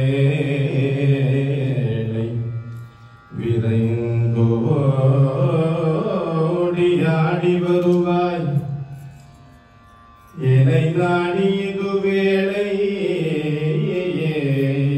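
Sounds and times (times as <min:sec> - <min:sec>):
man singing through a microphone: 0:00.0 - 0:08.8, 0:10.4 - 0:14.9.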